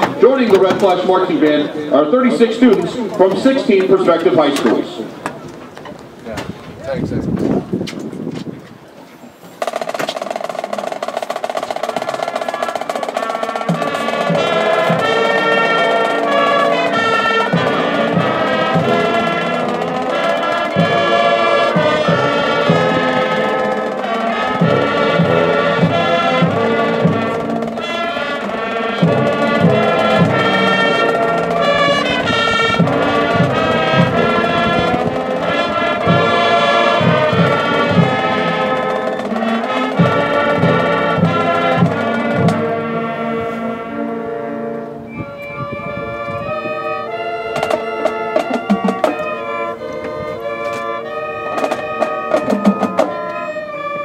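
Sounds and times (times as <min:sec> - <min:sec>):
drum strokes: 0:00.0 - 0:05.4, 0:09.5 - 0:43.7, 0:46.6 - 0:53.6
marching band playing anthem: 0:00.0 - 0:05.7, 0:09.5 - 0:54.0.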